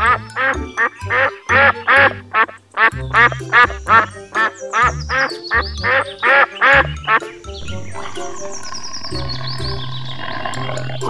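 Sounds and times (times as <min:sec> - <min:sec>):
background music: 0:00.0 - 0:11.0
ducks quacking rapidly: 0:00.0 - 0:11.0.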